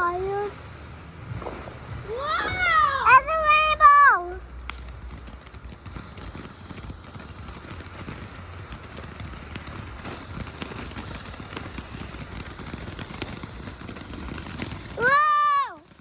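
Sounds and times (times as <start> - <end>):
firework crackling hiss: 0.0 - 16.0
small firework pops: 0.0 - 16.0.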